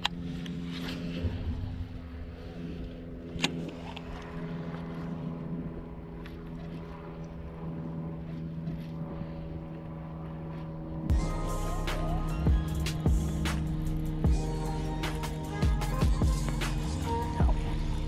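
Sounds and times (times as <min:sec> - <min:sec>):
steady motor hum: 0:00.0 - 0:18.0.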